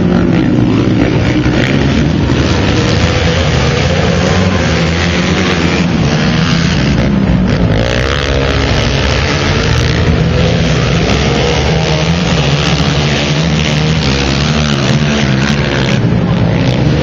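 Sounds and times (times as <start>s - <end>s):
quad engines revving: 0.0s - 17.0s.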